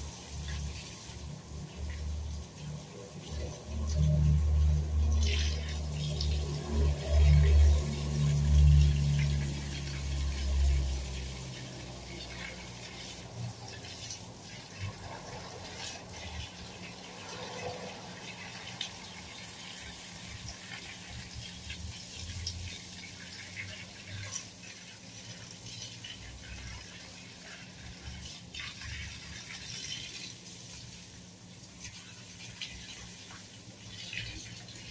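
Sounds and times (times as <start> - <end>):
garden hose spraying water: 0.0 - 34.9.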